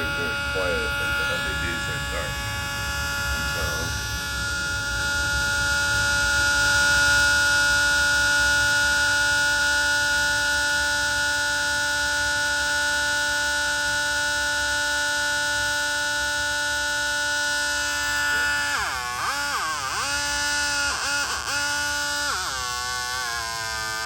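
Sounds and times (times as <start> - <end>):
electronic siren tone and wail: 0.0 - 24.0.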